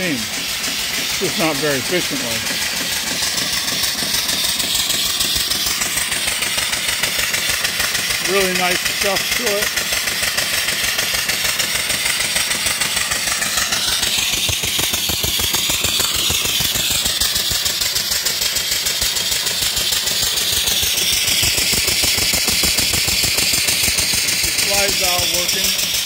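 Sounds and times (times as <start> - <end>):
steam engine running: 0.0 - 26.0.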